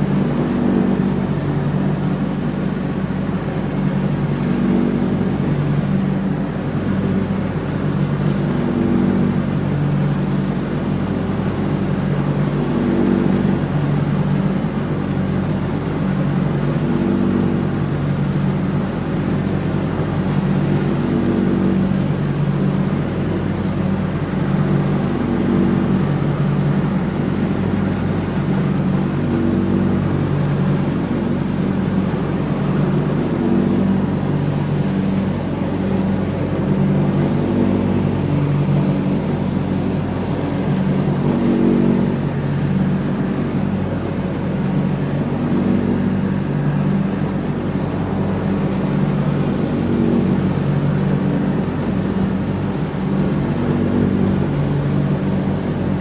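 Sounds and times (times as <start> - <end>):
lawn tractor engine mowing: 0.0 - 56.0.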